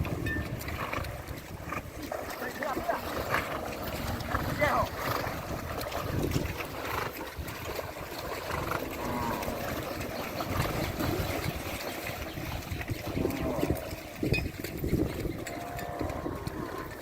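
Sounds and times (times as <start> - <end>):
water churning and splashing: 0.0 - 17.0
wind buffeting microphone: 0.0 - 17.0.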